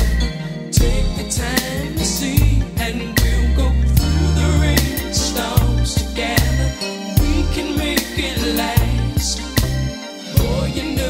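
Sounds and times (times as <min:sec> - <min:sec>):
soul song with drum beat: 0:00.0 - 0:11.0.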